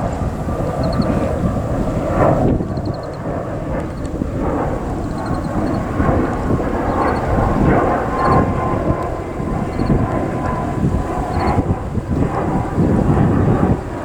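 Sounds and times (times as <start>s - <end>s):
faint steady whine: 0.0s - 14.0s
jet engines rumbling loudly: 0.0s - 14.0s.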